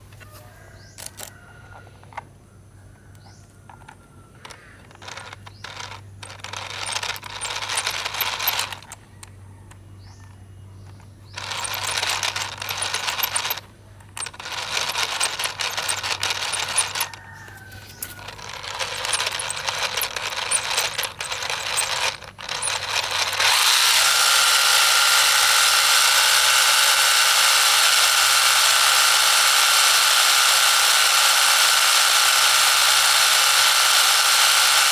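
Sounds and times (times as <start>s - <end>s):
miniature diesel engine: 0.8s - 2.2s, 2.8s - 34.9s.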